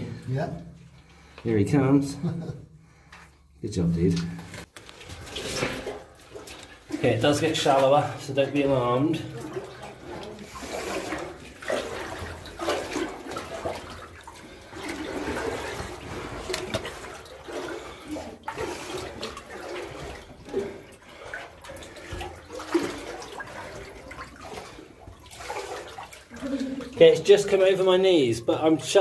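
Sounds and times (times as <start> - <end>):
wading through water: 4.3 - 28.0.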